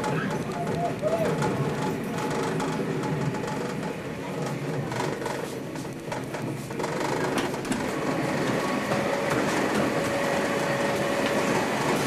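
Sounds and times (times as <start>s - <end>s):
train wheels rumbling and rattling: 0.0s - 12.0s.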